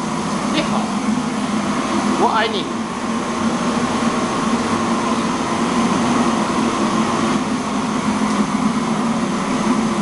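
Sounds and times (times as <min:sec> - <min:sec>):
loud machine drone: 0:00.0 - 0:10.0.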